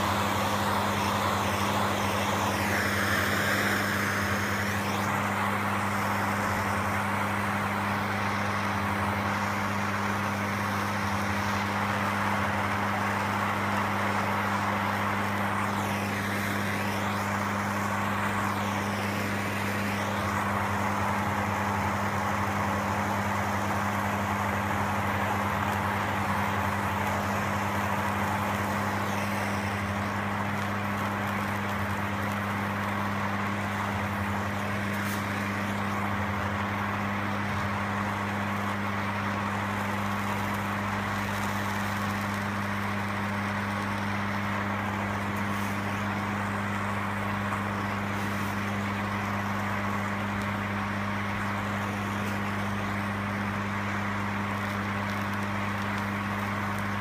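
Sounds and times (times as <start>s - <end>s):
constant low hum: 0.0s - 57.0s
gas torch flame hissing: 0.0s - 57.0s.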